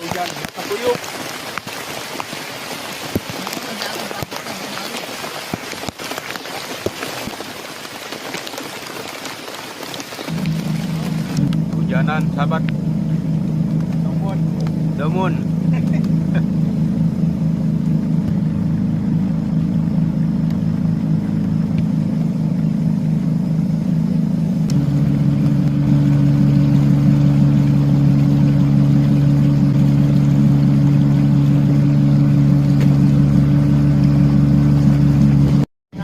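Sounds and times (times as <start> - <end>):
motorboat engine running: 0.0 - 36.0.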